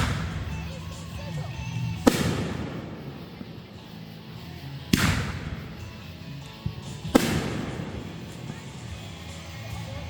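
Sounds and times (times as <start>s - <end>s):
fireworks booming with echo: 0.0s - 10.0s.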